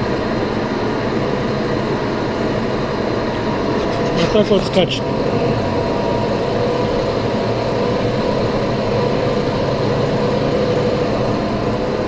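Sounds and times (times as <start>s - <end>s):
lathe running with whine: 0.0s - 12.0s.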